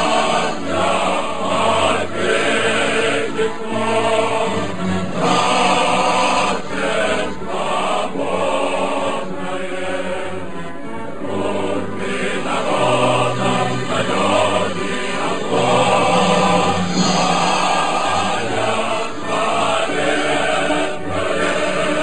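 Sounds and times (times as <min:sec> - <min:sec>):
choir singing slow chords: 0:00.0 - 0:22.0.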